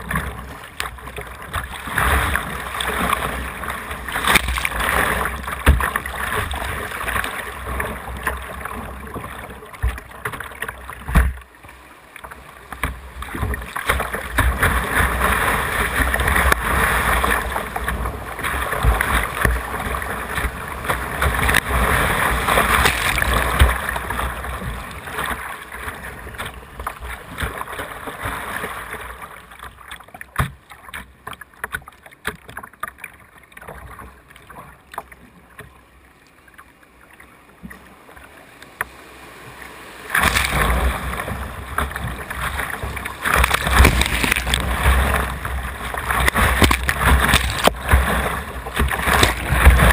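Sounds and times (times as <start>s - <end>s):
whitewater rushing and splashing: 0.0s - 35.2s, 36.0s - 49.9s
small splashes on calm water: 0.0s - 49.9s.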